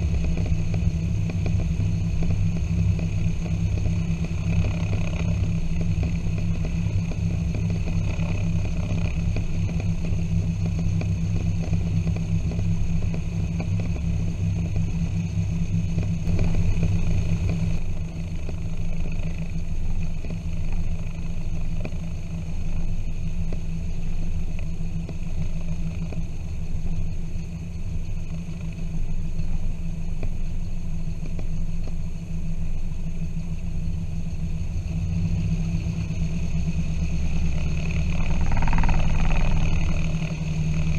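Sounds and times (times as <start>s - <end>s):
propeller plane engines droning: 0.0s - 40.9s.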